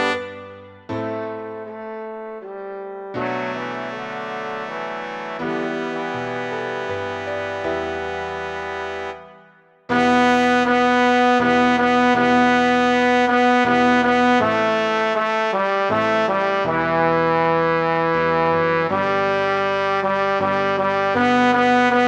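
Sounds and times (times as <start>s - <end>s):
synthesized brass-like chords: 0.0s - 22.0s.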